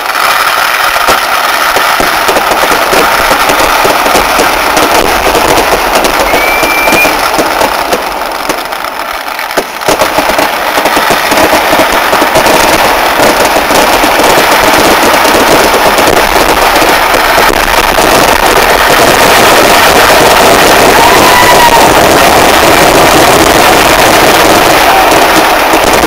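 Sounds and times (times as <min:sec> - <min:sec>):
fireworks explosions: 0:00.0 - 0:26.0.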